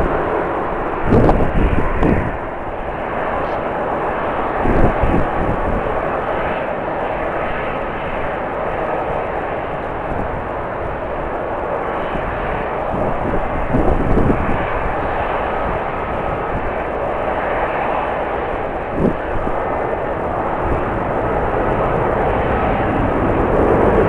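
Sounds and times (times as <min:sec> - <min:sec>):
airliner jet engine noise: 0:00.0 - 0:24.0
wind gusts buffeting microphone: 0:00.0 - 0:24.0.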